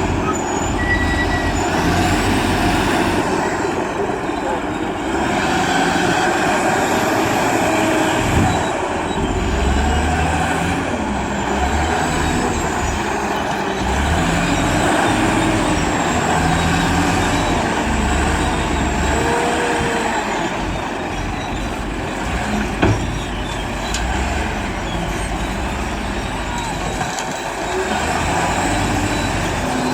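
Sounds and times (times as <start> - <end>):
diesel engine revving: 0.0 - 29.9.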